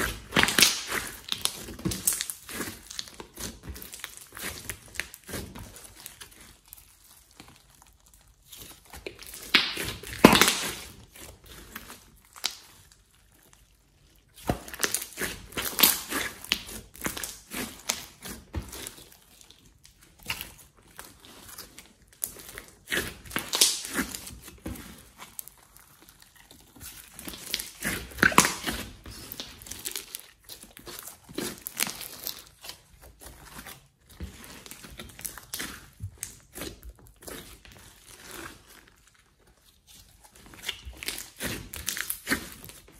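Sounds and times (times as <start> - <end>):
slime crackling and squishing: 0.0 - 42.9.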